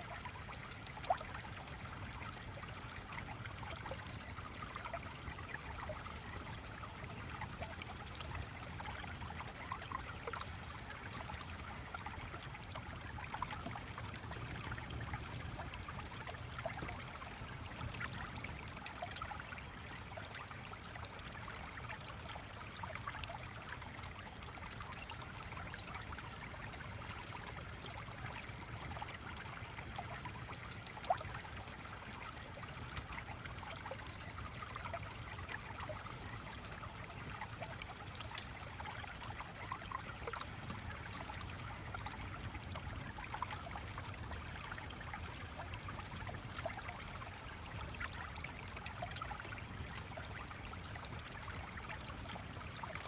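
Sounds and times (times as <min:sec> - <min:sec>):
stream trickling and babbling: 0:00.0 - 0:53.0.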